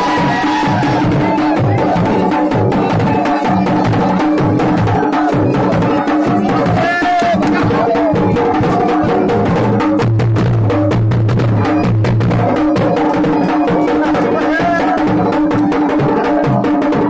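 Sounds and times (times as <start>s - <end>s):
fast dance drumming: 0.0s - 17.0s.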